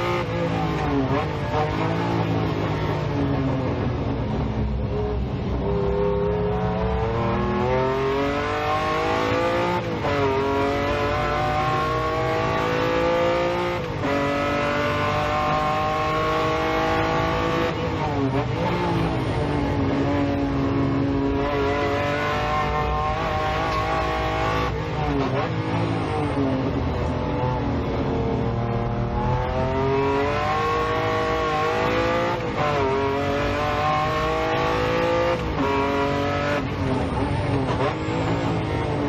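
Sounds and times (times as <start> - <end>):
sports car engine accelerating: 0.0 - 39.0.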